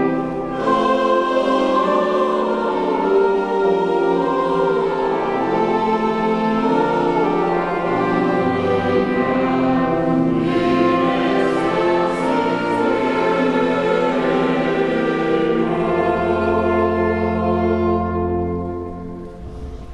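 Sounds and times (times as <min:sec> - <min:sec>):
choir singing: 0:00.0 - 0:19.9.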